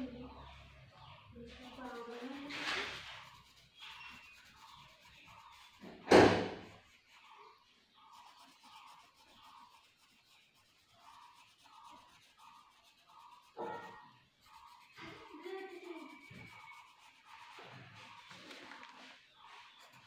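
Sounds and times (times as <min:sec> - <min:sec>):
pencil rubbing on paper: 0:00.0 - 0:20.0.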